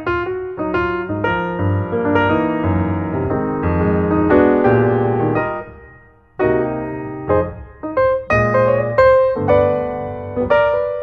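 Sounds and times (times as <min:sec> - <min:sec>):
background piano music: 0:00.0 - 0:11.0.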